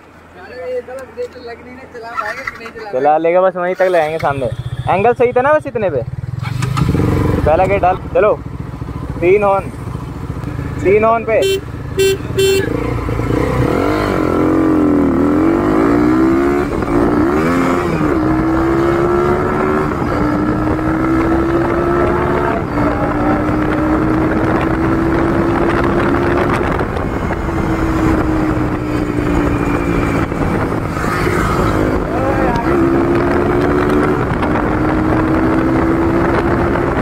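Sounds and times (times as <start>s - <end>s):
motorcycle engine shifting gears: 6.0s - 37.0s.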